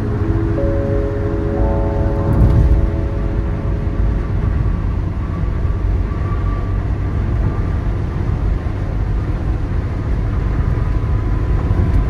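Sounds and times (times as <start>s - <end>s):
car driving at highway speed: 0.0s - 12.0s.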